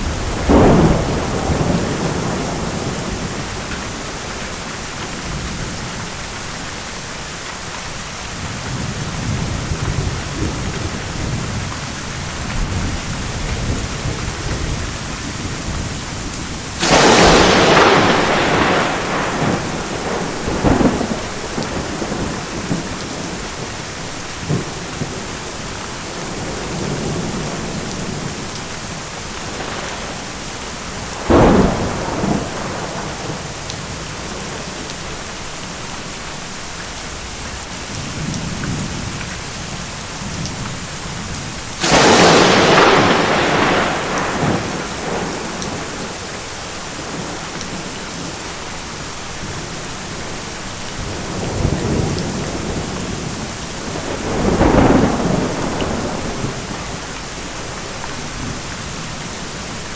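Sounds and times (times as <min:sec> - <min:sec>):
thunder cracks and rumbles: 0:00.0 - 0:05.9, 0:08.4 - 0:23.8, 0:24.4 - 0:34.9, 0:37.8 - 0:48.3, 0:51.0 - 0:58.6
heavy rain: 0:00.0 - 0:59.9.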